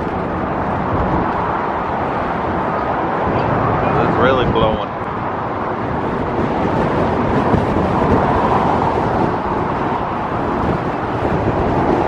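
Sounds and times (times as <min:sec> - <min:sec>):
gusty wind buffeting microphone: 0:00.0 - 0:12.0.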